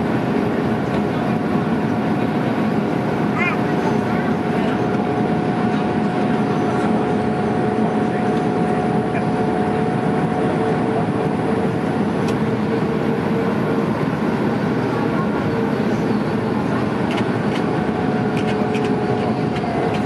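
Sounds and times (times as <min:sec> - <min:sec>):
aircraft cabin engine rush: 0:00.0 - 0:20.0
steady hums: 0:00.0 - 0:20.0.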